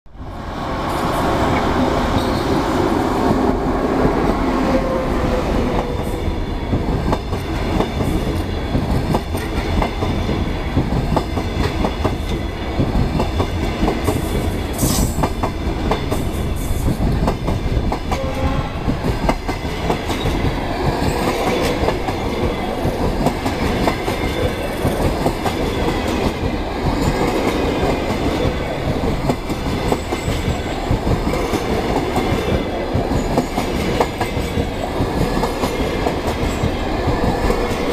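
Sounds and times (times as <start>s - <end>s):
train rumble: 0.1s - 37.9s.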